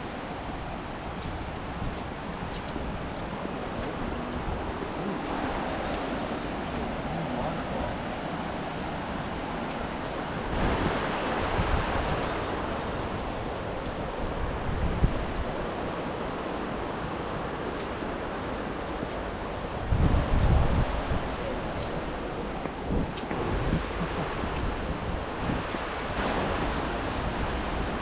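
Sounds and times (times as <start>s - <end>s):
river water rushing: 0.0s - 28.0s
wind buffeting microphone: 0.0s - 28.0s.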